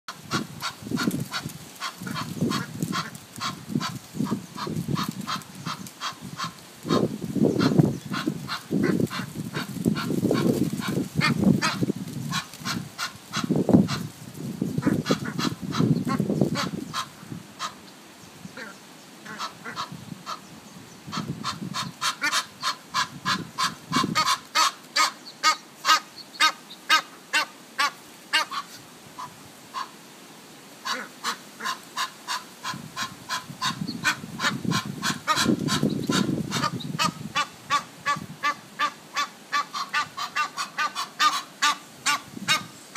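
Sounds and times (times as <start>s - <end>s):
goslings peeping: 0.2s - 14.1s, 14.8s - 17.8s, 18.6s - 20.5s, 21.1s - 29.9s, 30.8s - 42.7s
low rough goose calls: 0.2s - 14.1s, 18.6s - 20.5s, 21.1s - 30.0s, 30.8s - 42.7s.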